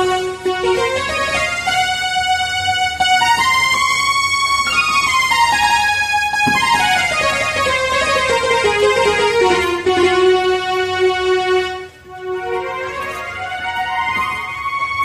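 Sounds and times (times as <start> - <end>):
electronic keyboard melody: 0.0 - 15.0.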